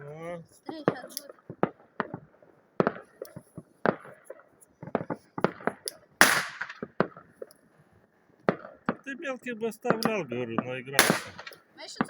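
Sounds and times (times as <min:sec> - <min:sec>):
firecrackers banging: 0:00.7 - 0:07.5, 0:08.4 - 0:12.0.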